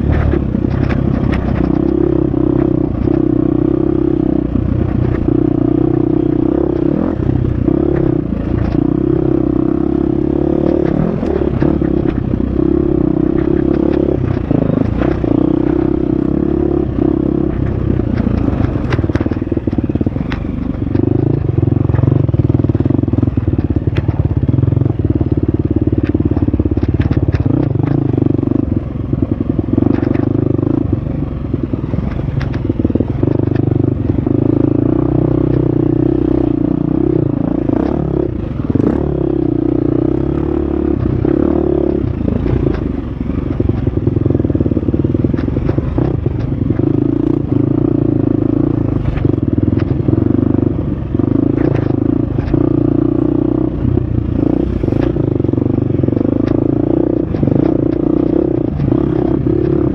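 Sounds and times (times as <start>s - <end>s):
clatter and clicks: 0.0s - 59.9s.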